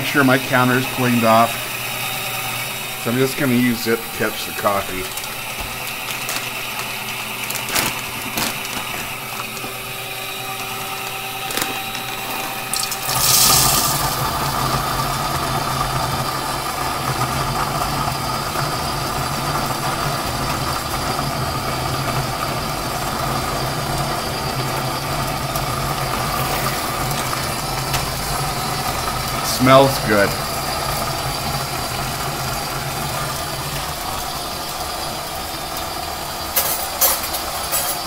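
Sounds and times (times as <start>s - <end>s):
coffee grinder running: 0.0s - 38.0s
coffee beans poured into hopper: 3.1s - 10.0s, 10.6s - 38.0s.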